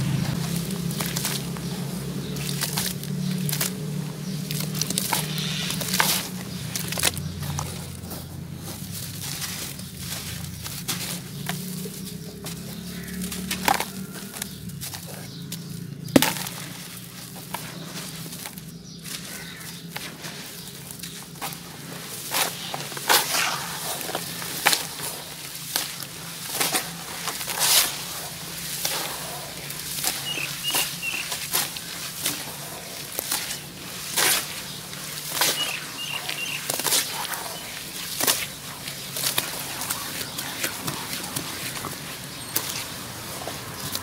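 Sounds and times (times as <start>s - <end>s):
gritty crunching of crumbling lumps: 0.0s - 44.0s
hands squelching wet paste: 0.0s - 44.0s.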